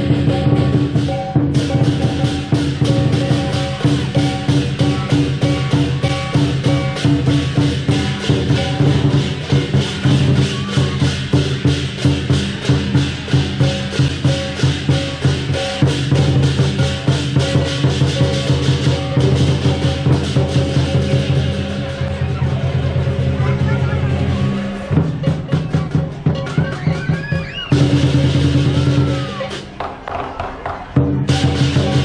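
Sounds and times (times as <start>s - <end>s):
cymbals clashing: 0.0s - 32.0s
large drum beating: 0.0s - 32.0s.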